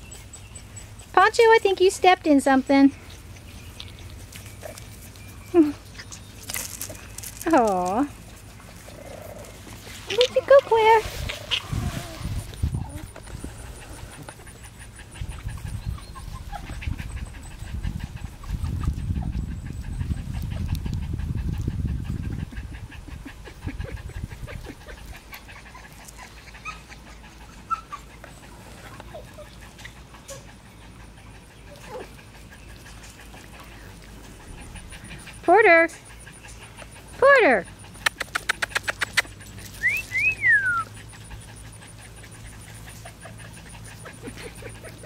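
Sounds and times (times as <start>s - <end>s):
puppies whimpering and squeaking: 0.0s - 20.8s, 22.3s - 45.0s.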